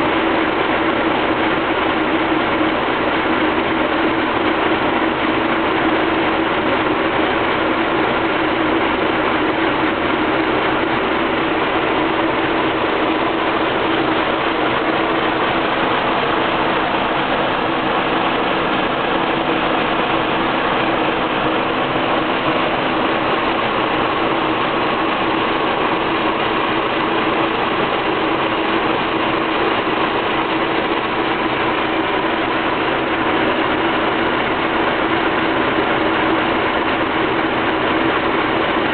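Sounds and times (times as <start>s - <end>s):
car engine idling with clatter: 0.0s - 38.9s.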